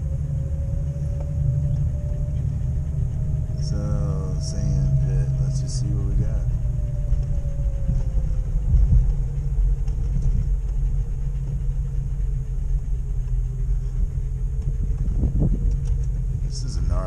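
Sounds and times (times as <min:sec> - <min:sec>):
engine and tyres rumbling: 0:00.0 - 0:17.0
faint whine: 0:00.0 - 0:17.0.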